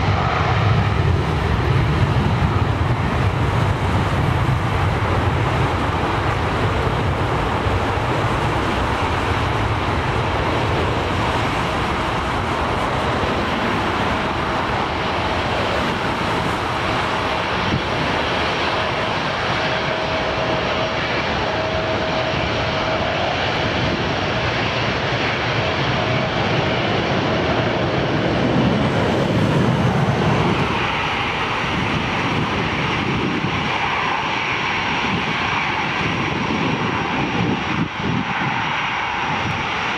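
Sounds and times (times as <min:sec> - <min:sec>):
jet engines roaring: 0:00.0 - 0:39.9
jet taxiing: 0:00.0 - 0:39.9.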